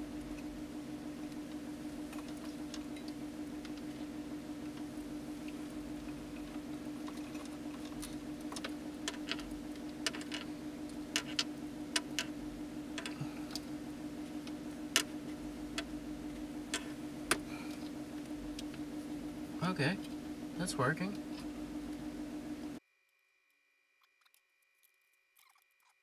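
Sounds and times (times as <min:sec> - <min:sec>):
steady low hum: 0:00.0 - 0:22.8.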